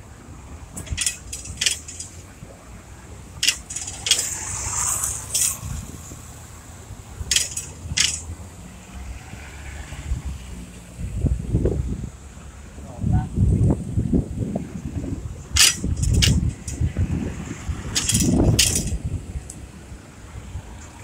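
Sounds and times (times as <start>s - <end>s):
cars passing rumble: 0.0s - 21.0s.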